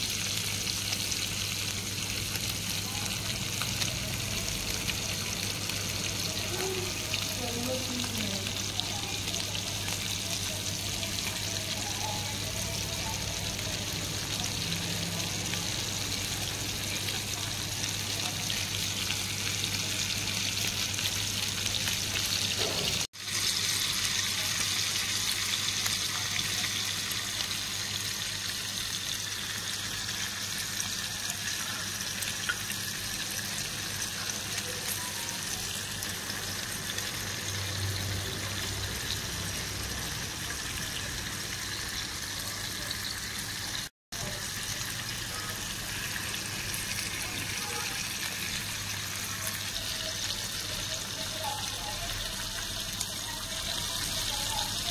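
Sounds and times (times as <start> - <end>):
fish sizzling in oil: 0.0 - 54.9.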